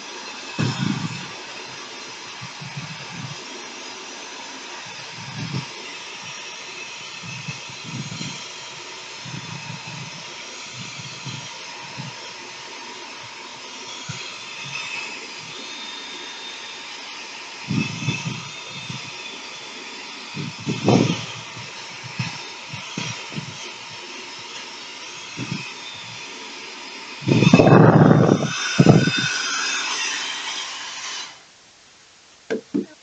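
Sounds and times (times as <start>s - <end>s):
hair dryer blowing: 0.0s - 31.5s.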